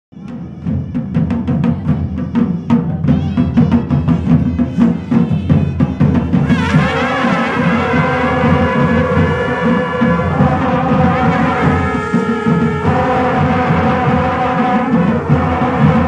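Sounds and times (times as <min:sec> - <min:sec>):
drums beaten rapidly: 0:00.1 - 0:16.0
wind instruments holding notes: 0:00.2 - 0:16.0.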